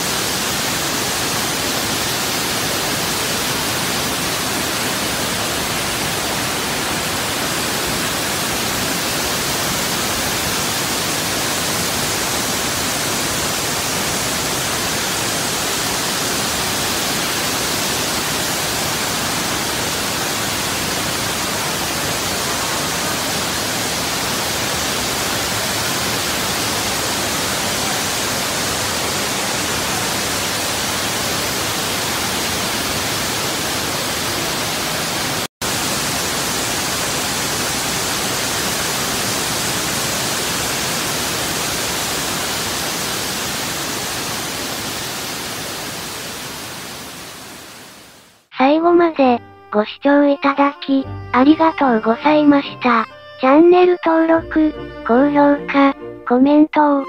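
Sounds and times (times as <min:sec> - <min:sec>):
waterfall rushing: 0:00.0 - 0:48.5.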